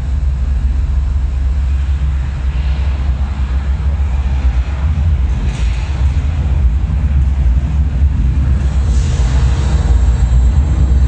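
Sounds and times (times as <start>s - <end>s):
deep rumbling drone: 0.0s - 11.0s.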